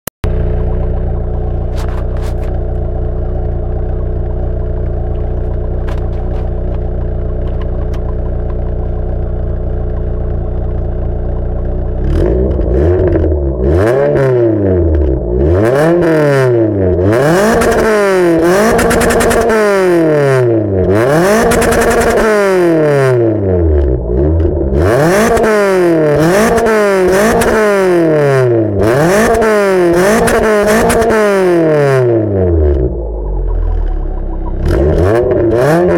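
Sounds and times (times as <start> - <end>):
car engine idling and revving: 0.2 - 35.9.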